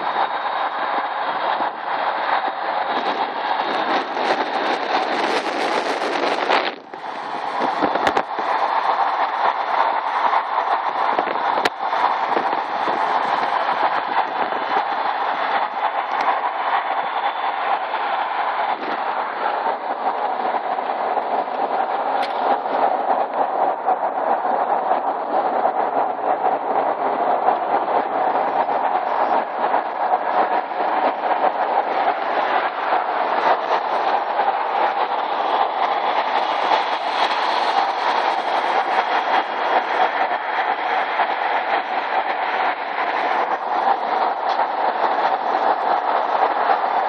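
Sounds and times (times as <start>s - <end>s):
motorcycle engine drone: 0.0s - 47.0s
road noise: 0.0s - 47.0s
rushing wind: 0.0s - 47.0s.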